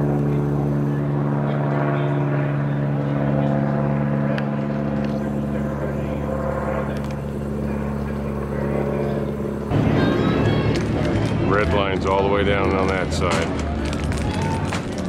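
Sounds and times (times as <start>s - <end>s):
propeller airplane engine droning: 0.0s - 15.0s.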